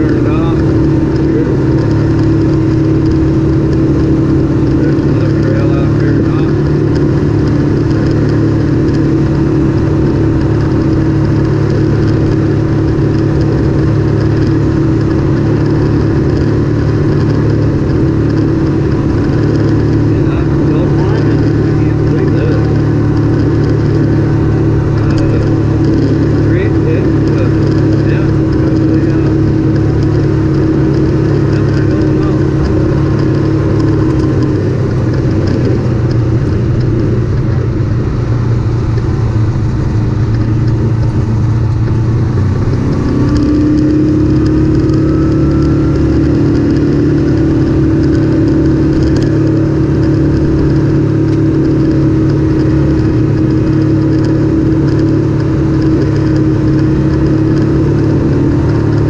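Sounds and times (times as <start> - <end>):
tyres on gravel: 0.0 - 59.0
vehicle engine running: 0.0 - 59.0
wind noise: 0.0 - 59.0.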